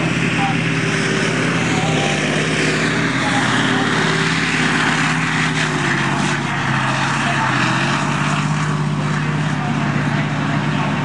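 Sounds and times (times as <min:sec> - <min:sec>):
tank diesel engine droning: 0:00.0 - 0:11.0.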